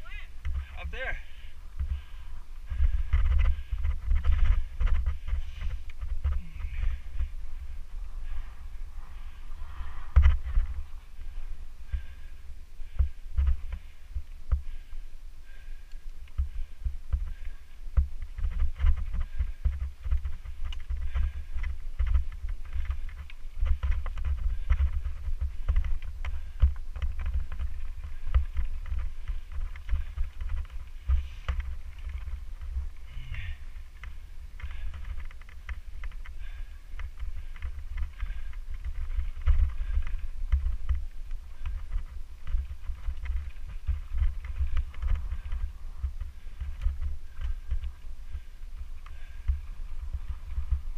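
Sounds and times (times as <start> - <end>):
wind and ground rumble: 0.0 - 50.9
bike clicks and rattles: 0.4 - 50.9.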